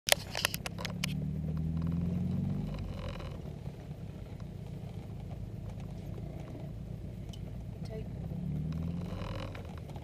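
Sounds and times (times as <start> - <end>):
sports car engine rumble: 0.1 - 10.0.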